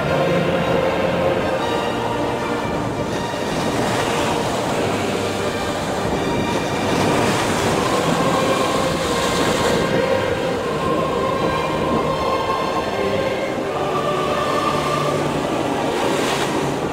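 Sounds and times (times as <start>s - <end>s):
surf waves breaking: 0.0s - 16.9s
wind: 0.0s - 16.9s.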